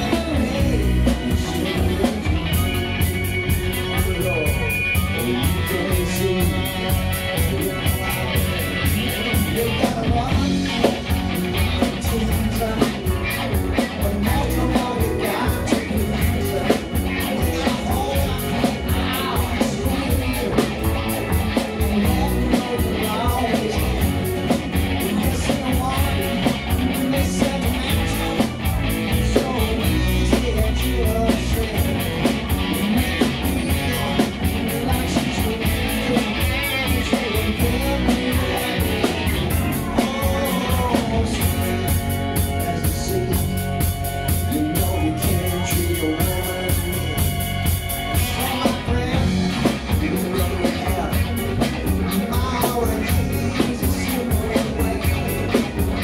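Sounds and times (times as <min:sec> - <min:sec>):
person singing: 0:00.0 - 0:47.4, 0:48.0 - 0:56.0
live rock band playing: 0:00.0 - 0:56.0.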